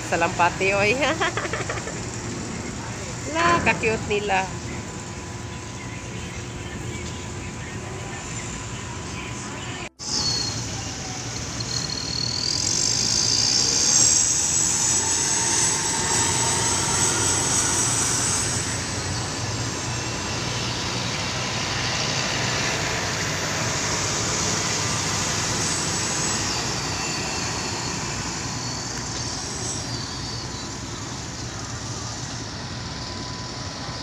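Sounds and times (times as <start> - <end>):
ferry engines droning: 0.0 - 34.0.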